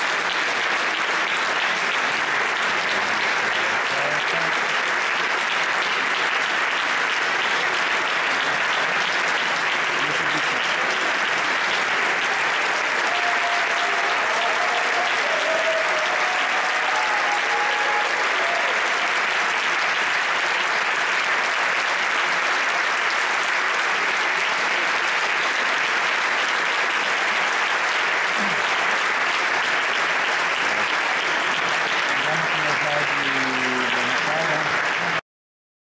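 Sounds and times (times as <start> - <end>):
audience applauding: 0.0 - 35.2.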